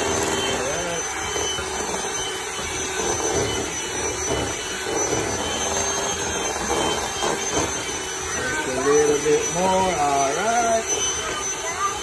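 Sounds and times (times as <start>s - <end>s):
electric mixer beating batter: 0.0s - 12.0s.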